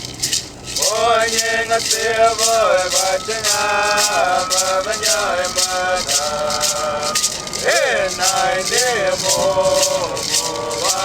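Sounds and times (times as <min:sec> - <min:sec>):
rattle shaken in a steady beat: 0:00.0 - 0:11.0
person singing: 0:00.8 - 0:11.0.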